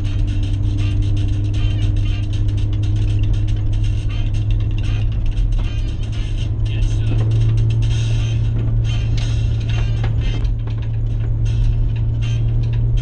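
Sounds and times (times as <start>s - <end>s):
vehicle driving on rough dirt road: 0.0s - 13.0s
rattling and knocking from bumps: 1.2s - 13.0s.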